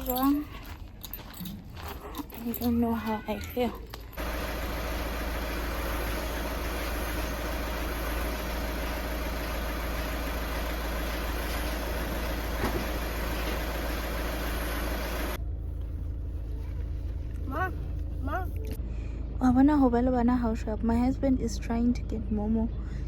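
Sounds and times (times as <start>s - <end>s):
car engine low rumble: 3.8s - 23.0s.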